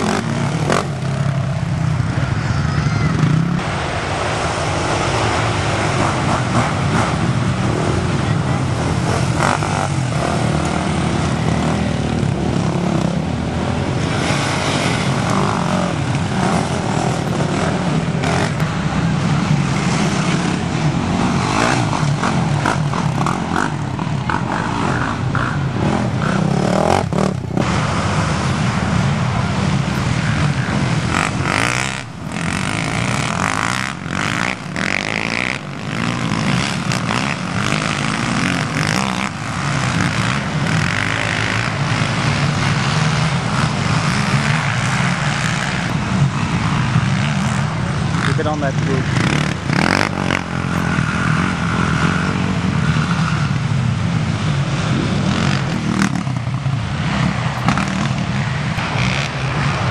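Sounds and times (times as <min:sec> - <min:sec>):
atv engines revving: 0:00.0 - 0:59.9.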